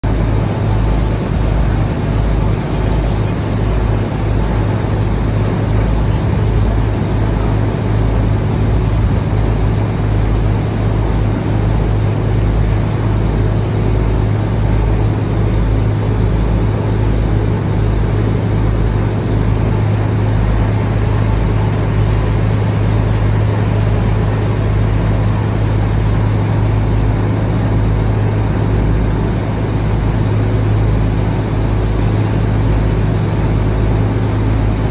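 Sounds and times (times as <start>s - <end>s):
ferry engine droning: 0.0s - 34.9s.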